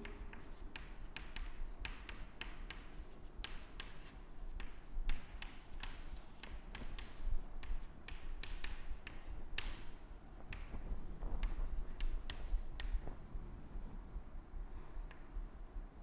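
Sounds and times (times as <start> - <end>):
chalk writing on a chalkboard: 0.0 - 13.0.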